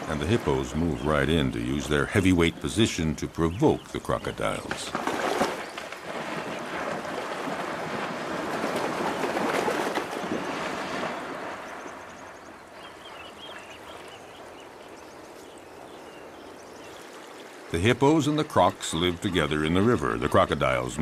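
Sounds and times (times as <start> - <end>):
water splashing and churning: 0.0 - 21.0.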